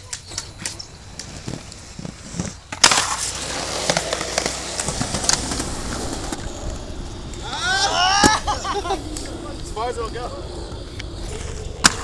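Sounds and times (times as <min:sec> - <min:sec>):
inline skates grinding on ledge: 0:00.3 - 0:12.0.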